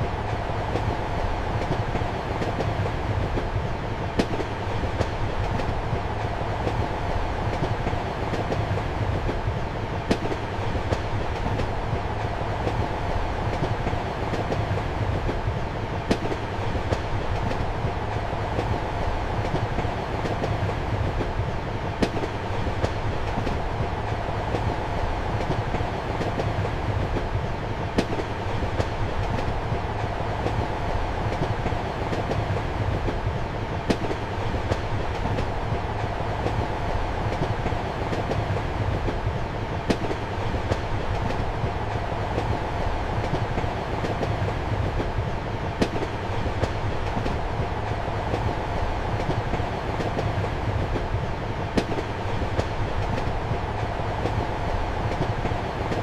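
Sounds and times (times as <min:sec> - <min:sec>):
train rumble and hum: 0:00.0 - 0:56.0.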